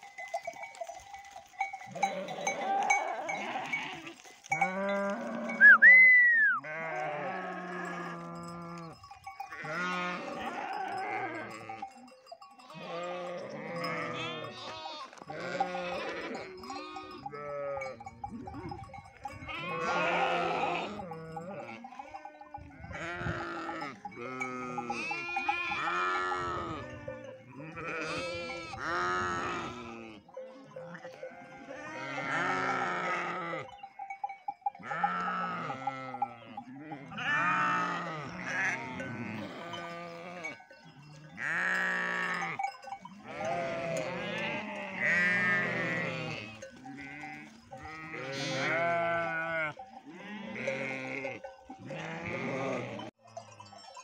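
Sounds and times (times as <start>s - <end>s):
sheep and goats bleating: 0.0s - 54.0s.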